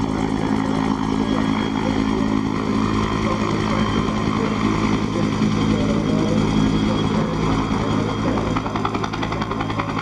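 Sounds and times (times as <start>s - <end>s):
helicopter rotor and engine drone: 0.0s - 10.0s.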